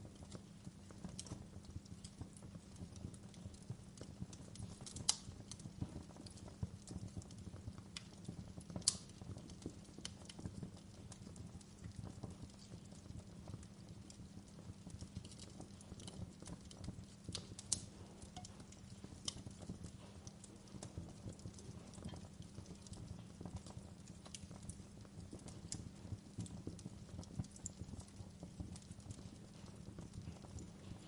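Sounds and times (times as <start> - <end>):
low rumble of flames: 0.0 - 31.0
wood fire crackling and popping: 0.0 - 31.0.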